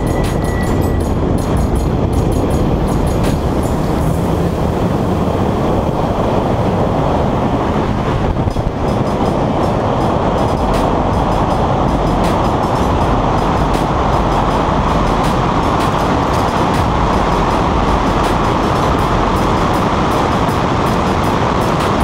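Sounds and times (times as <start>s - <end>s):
sharp ticks: 0.0s - 4.3s, 8.5s - 22.0s
car engine running: 0.0s - 22.0s
wind rush and road rumble: 0.0s - 22.0s.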